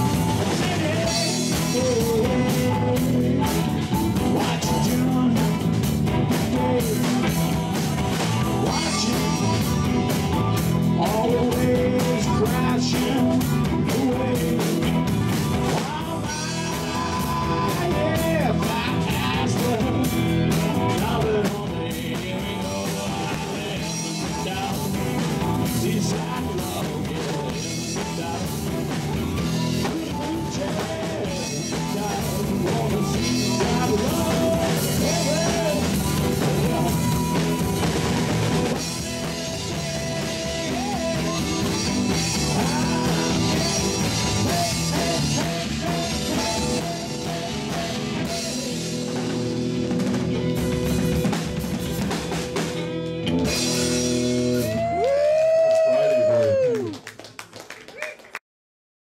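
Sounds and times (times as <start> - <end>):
man singing lead: 0.0 - 50.5
drum kit: 0.0 - 56.9
electric guitar: 0.0 - 58.0.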